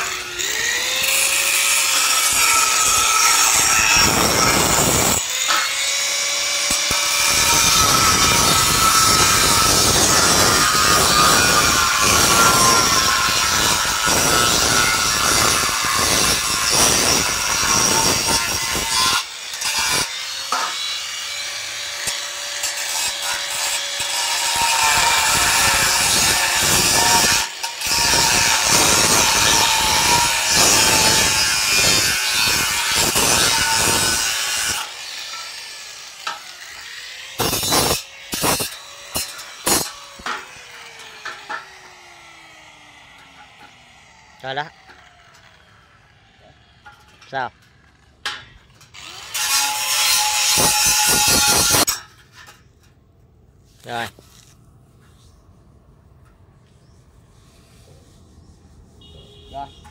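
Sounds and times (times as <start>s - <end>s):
angle grinder cutting steel: 0.0s - 52.7s.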